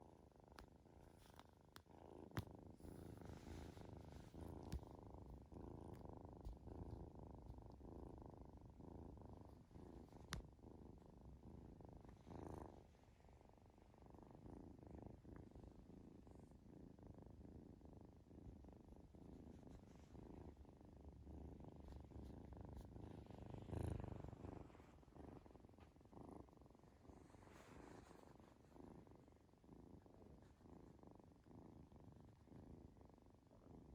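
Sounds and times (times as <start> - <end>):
kitten purring: 0.0 - 33.9.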